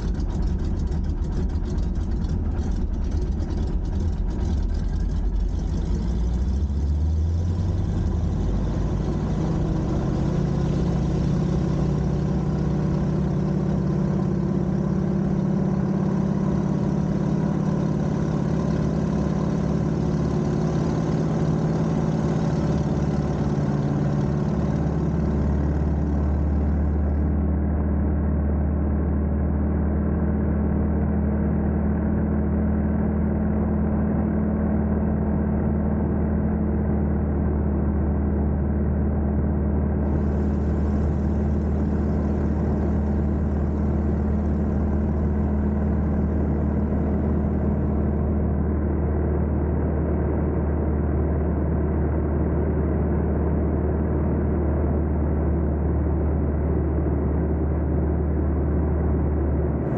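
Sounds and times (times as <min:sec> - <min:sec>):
radial aircraft engine running: 0:00.0 - 0:59.9.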